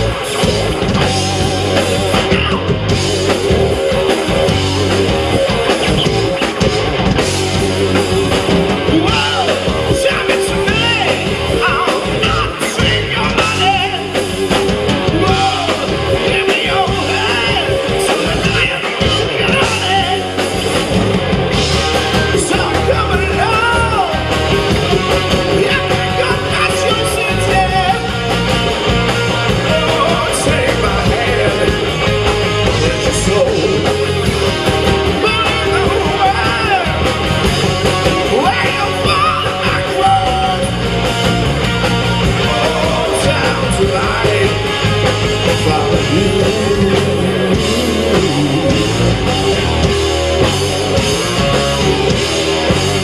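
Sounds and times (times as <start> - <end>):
live rock band playing: 0.0 - 53.0
vocalist singing and yelling: 0.0 - 53.0.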